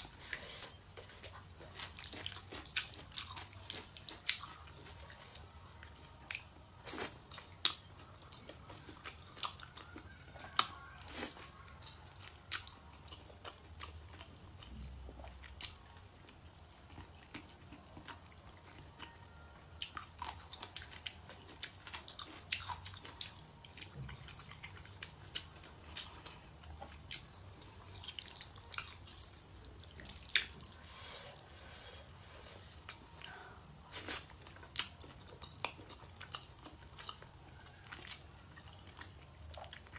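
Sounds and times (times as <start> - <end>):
close-miked chewing noodles: 0.0 - 39.9.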